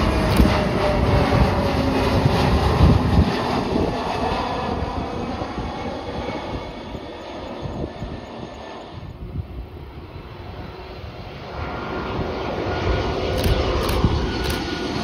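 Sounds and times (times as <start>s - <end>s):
plane passing by: 0.0s - 15.0s.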